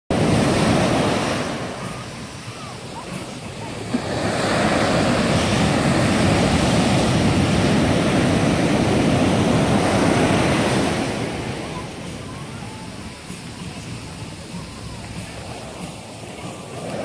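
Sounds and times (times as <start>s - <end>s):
ocean waves breaking and rushing: 0.1s - 17.0s.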